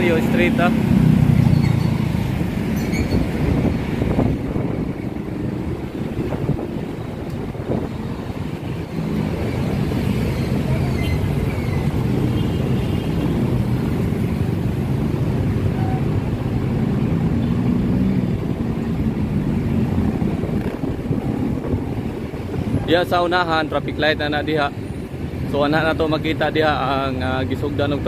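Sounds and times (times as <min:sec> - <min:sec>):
cars and motorcycles passing: 0:00.0 - 0:28.0.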